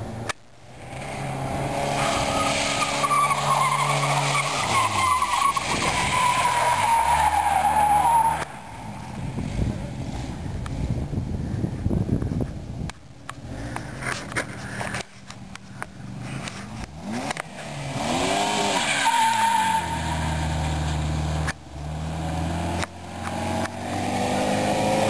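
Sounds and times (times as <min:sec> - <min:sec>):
tyres skidding: 0:00.0 - 0:25.0
car engine revving: 0:00.1 - 0:11.3, 0:13.3 - 0:25.0.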